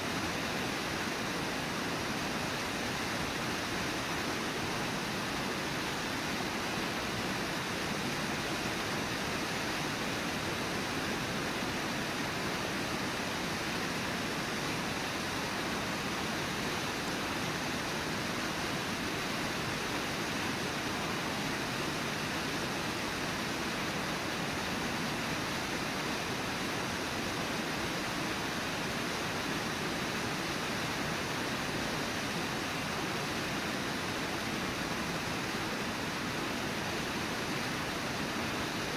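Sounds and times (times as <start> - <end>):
waterfall rushing into pool: 0.0 - 38.9.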